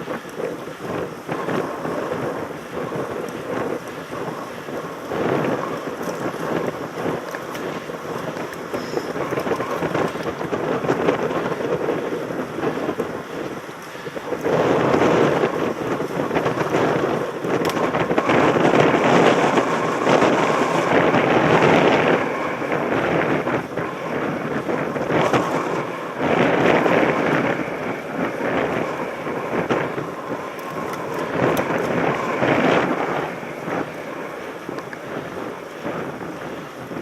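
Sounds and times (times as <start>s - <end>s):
bike tyres on gravel: 0.0s - 37.0s
wind on microphone: 0.0s - 37.0s.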